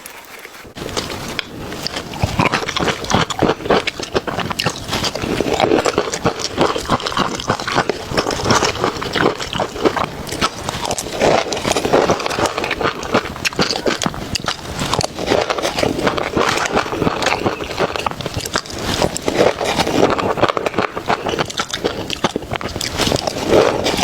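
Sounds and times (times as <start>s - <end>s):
chewing with small clicks: 0.4s - 24.0s.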